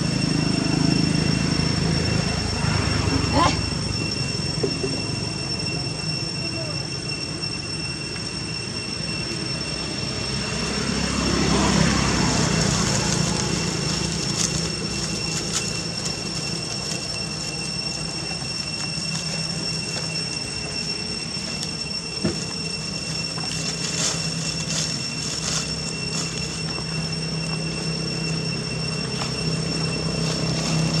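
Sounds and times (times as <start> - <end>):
high whining tones: 0.0 - 31.0
outdoor background drone: 0.0 - 31.0.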